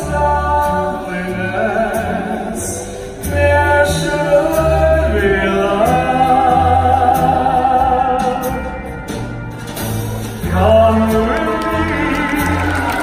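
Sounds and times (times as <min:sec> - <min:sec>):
show music with singer: 0:00.0 - 0:13.0.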